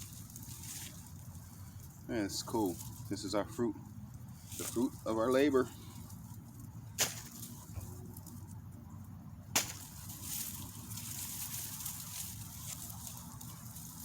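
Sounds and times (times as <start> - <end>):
rustling of plant foliage: 0.0 - 14.0.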